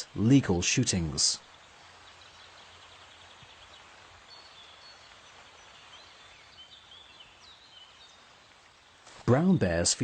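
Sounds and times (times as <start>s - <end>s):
small songbirds chirping: 0.0s - 10.0s
steady hiss: 0.0s - 10.0s.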